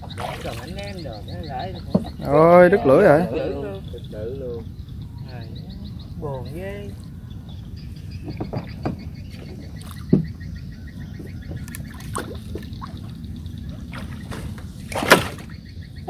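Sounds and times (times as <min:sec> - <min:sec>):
rapid pulsing chirp: 0:00.0 - 0:16.0
steady low rumble: 0:00.0 - 0:16.0.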